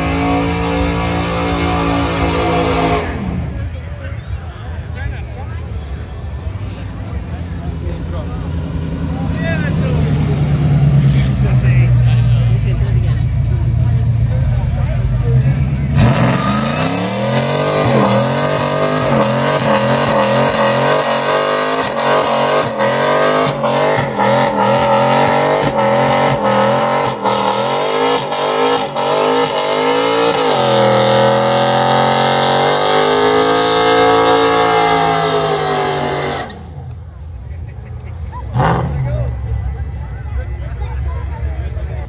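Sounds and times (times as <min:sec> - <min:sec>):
truck engine revving: 0:00.0 - 0:03.8, 0:06.1 - 0:42.0.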